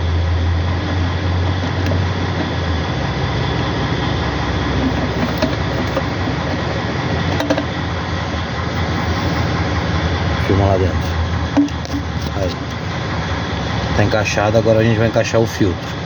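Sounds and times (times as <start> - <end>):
low mechanical rumble: 0.0 - 16.0
strong low hum: 0.0 - 16.0.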